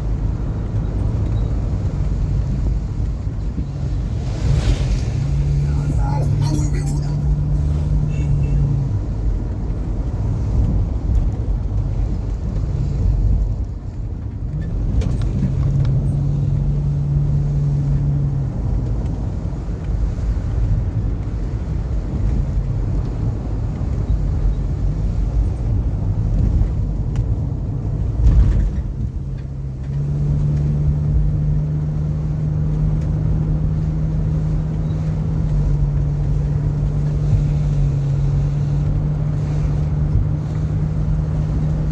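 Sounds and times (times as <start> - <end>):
car engine hum: 0.0 - 41.9
road rumble: 0.0 - 41.9.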